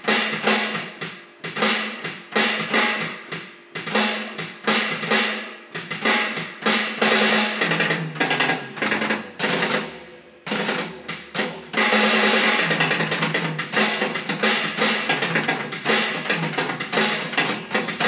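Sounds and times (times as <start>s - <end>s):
electronic drum kit playing: 0.0s - 18.0s.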